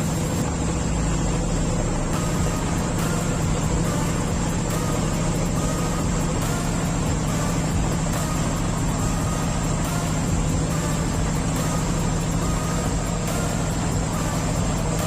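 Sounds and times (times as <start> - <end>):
boat diesel engines droning: 0.0 - 15.0.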